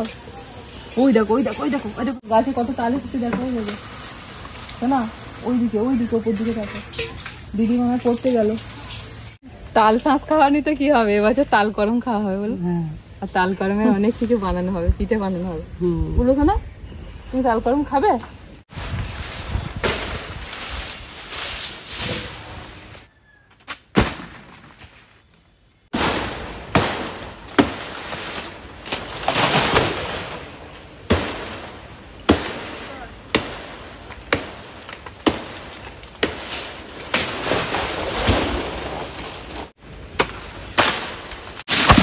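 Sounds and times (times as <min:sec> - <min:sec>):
palm fronds rustling: 0:00.0 - 0:09.7, 0:18.0 - 0:42.0.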